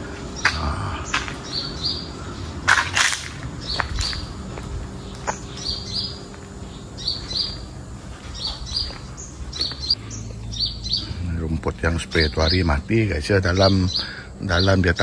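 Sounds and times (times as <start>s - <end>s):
steady low hum: 0.0s - 15.0s
small bird chirping: 0.4s - 2.5s, 5.0s - 15.0s.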